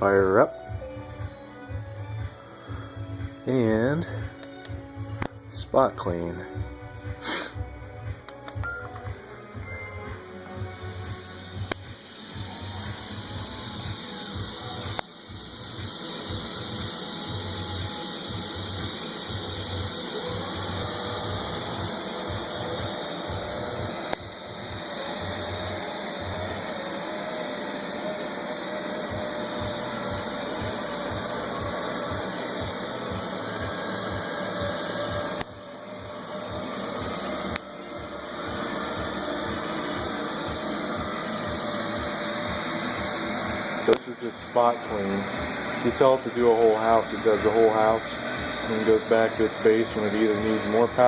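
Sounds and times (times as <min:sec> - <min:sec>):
robot vacuum whirring: 0:09.0 - 0:51.0.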